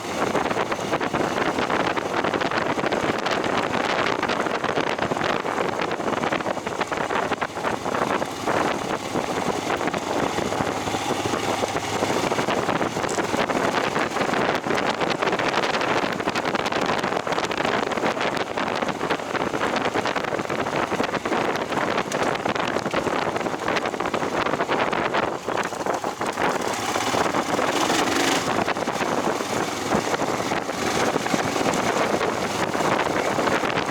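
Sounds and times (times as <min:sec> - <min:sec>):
rattling rumble on unpaved road: 0:00.0 - 0:33.9
wind buffeting microphone: 0:00.0 - 0:33.9.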